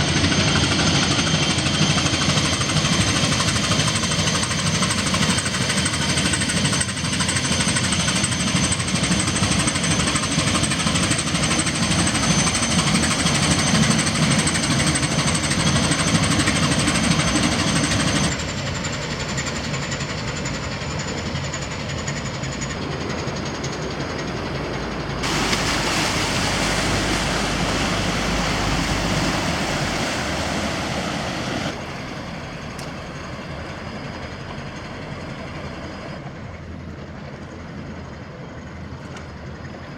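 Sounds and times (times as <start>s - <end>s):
ship diesel engine knocking: 0.0s - 39.9s.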